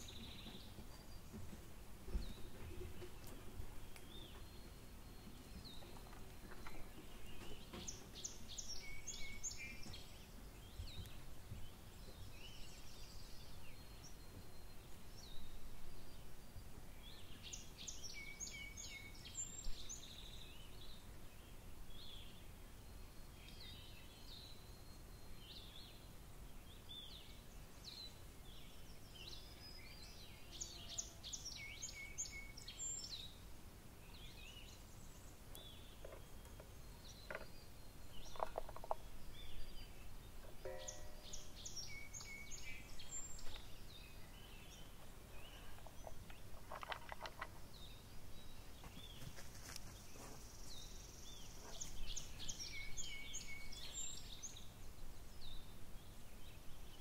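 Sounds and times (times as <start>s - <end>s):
bird song of high notes: 0.0s - 57.0s.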